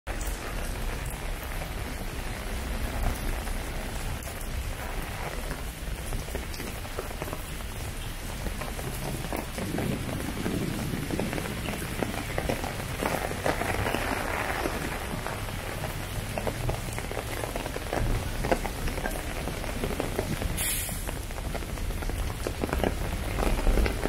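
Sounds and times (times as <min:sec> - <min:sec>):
heavy rain on wet paving: 0:00.1 - 0:24.0.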